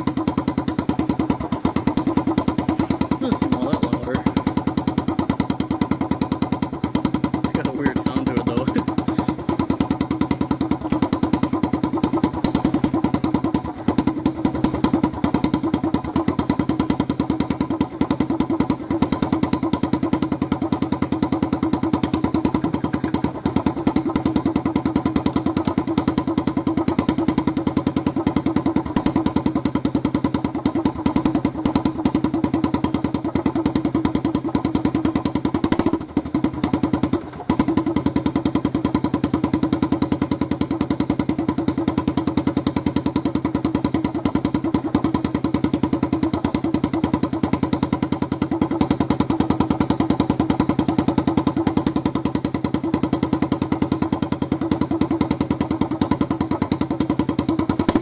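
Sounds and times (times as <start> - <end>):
engine running through open exhaust: 0.0 - 58.0.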